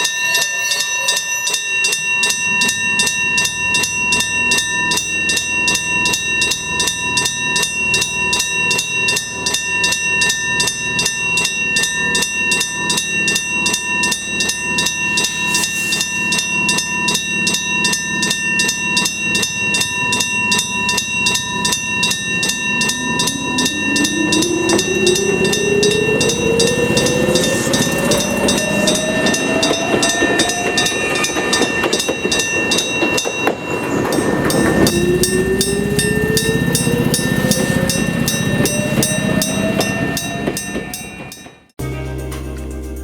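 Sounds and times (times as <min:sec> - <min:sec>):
crossing bell ringing rapidly: 0:00.0 - 0:41.8
train wheel noise: 0:00.0 - 0:41.8
train motor whine: 0:01.4 - 0:41.7.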